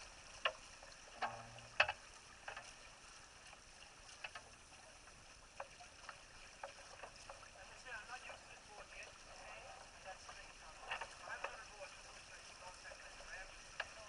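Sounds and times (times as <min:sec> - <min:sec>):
water hissing along boat hull: 0:00.0 - 0:14.0
water slaps and knocks on hull: 0:00.0 - 0:14.0.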